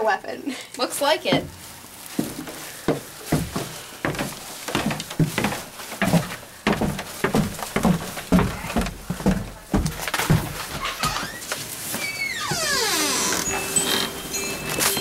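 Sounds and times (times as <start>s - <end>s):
footsteps on hard steps: 1.2s - 15.0s.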